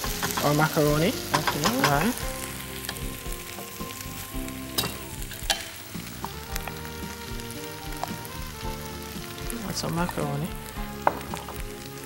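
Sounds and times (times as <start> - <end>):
meat and vegetables sizzling in a pan: 0.0 - 12.0.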